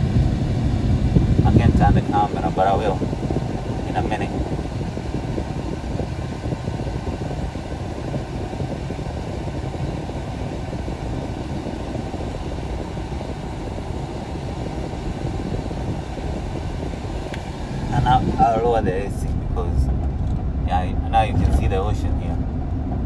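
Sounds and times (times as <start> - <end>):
air-conditioning fan blowing: 0.0 - 23.0
road and tyre noise: 0.0 - 23.0.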